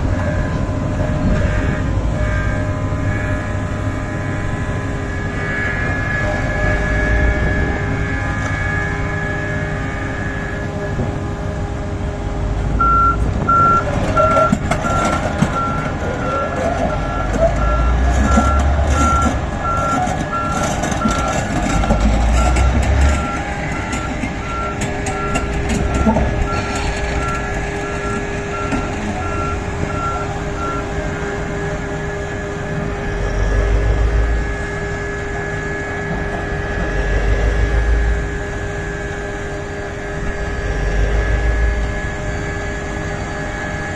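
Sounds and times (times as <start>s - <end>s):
reversing alarm beeping: 0.0s - 12.0s, 12.7s - 43.9s
excavator engine running: 0.0s - 43.9s.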